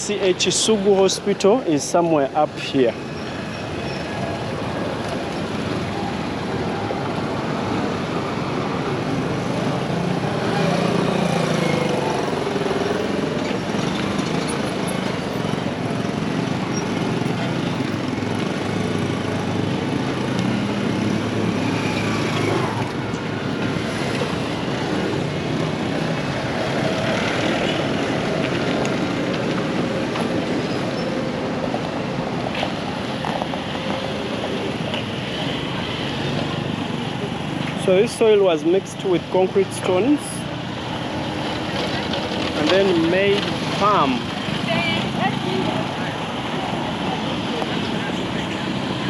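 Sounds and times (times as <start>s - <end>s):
passing traffic: 0.0s - 49.0s.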